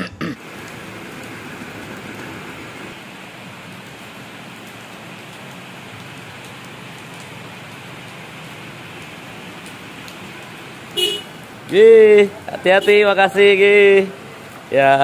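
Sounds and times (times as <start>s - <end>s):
rain on wet pavement: 0.4s - 15.0s.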